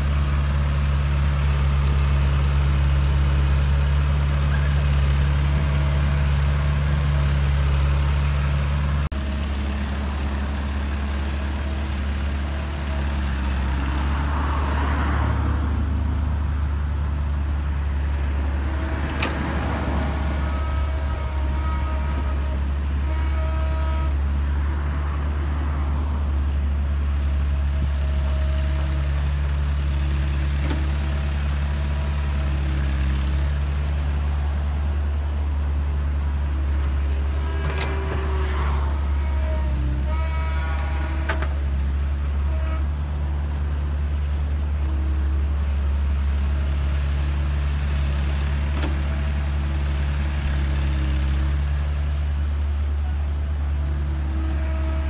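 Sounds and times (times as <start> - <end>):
heavy diesel machinery droning: 0.0 - 55.0.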